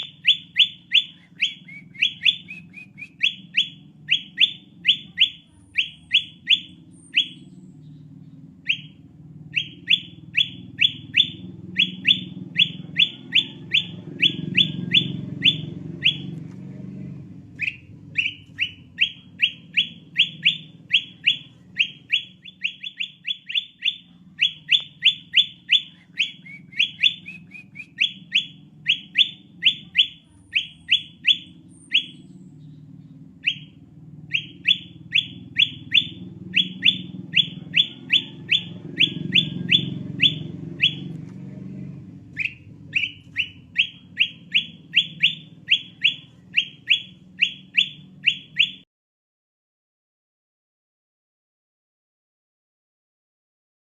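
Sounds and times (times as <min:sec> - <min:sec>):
bird whistled notes: 0:00.0 - 0:07.9, 0:08.6 - 0:16.4, 0:17.6 - 0:32.8, 0:33.4 - 0:41.1, 0:42.4 - 0:48.8.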